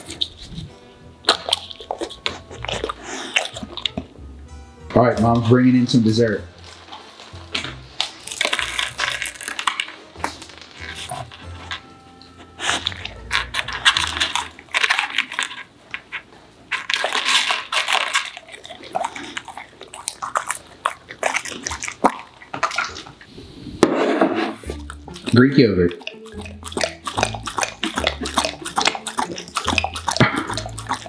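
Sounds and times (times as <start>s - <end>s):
dog crunching popcorn: 0.0s - 4.1s, 6.5s - 23.3s, 24.6s - 31.0s.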